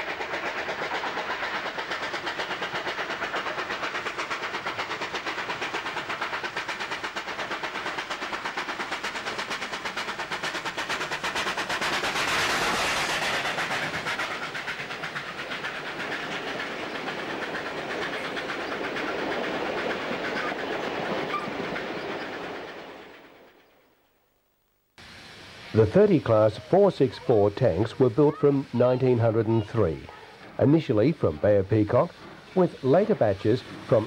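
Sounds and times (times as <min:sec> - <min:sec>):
steam locomotive exhaust beats: 0:00.0 - 0:23.7, 0:25.0 - 0:34.0
train carriages running past: 0:00.0 - 0:24.0, 0:25.1 - 0:34.0.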